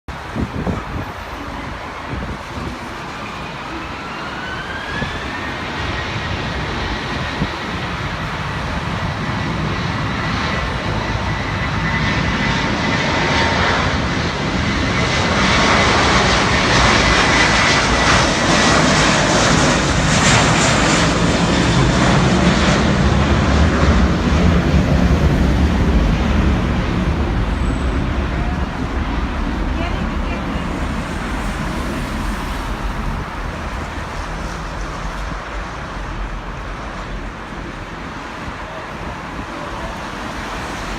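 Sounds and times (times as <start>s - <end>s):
jet engines during takeoff: 0.1s - 40.9s.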